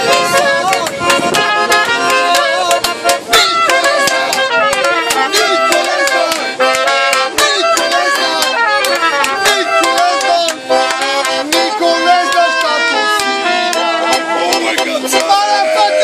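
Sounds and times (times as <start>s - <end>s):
accordion playing: 0.0s - 16.0s
trumpet playing: 0.0s - 16.0s.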